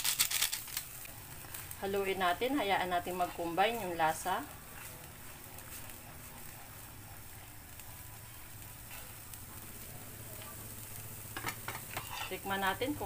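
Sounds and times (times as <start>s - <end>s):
sauce bubbling in a pan: 0.8s - 13.0s.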